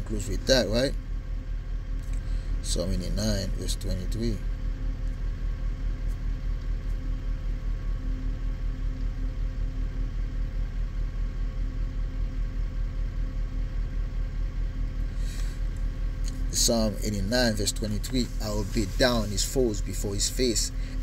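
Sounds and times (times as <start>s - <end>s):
throbbing machine hum: 0.0s - 21.0s.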